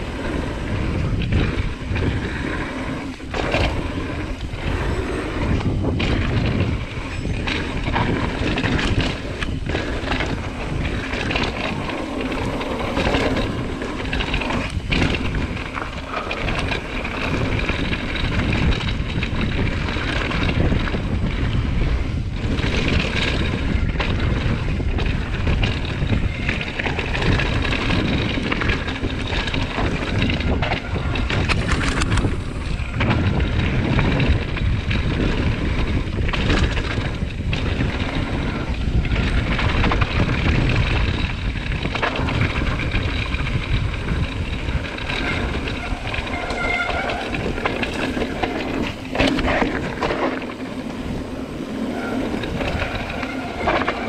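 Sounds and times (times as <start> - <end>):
bike knocks and rattles: 0.0 - 54.0
bike tyres rolling on gravel: 0.0 - 54.0
wind buffeting microphone: 0.0 - 54.0.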